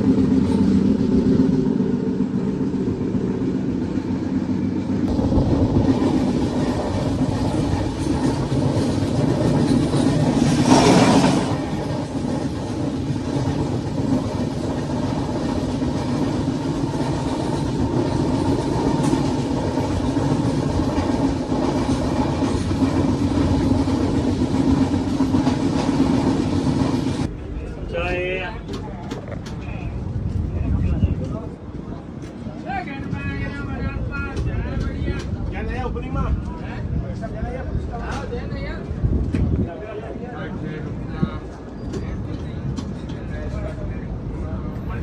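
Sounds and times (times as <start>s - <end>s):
train rumbling on rails: 0.0s - 45.0s.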